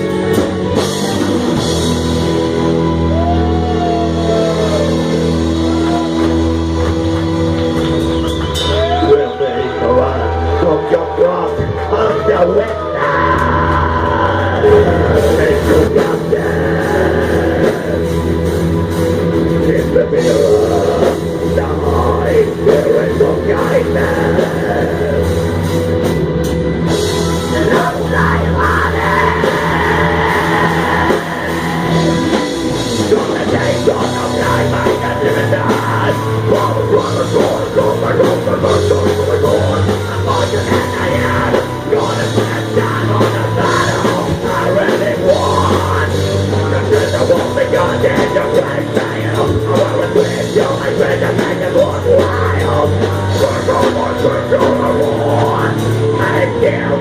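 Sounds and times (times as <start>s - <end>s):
heavy metal band playing: 0.0s - 57.0s.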